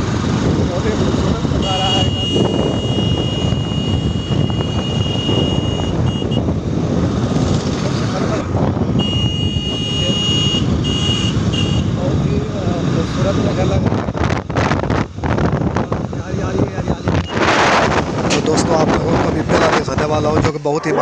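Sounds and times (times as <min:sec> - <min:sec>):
motorbike road noise: 0:00.0 - 0:21.0
wind buffeting microphone: 0:00.0 - 0:21.0.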